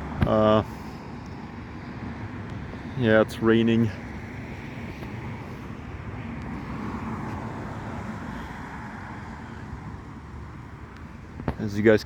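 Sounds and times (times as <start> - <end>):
traffic on wet roads: 0.0 - 12.0.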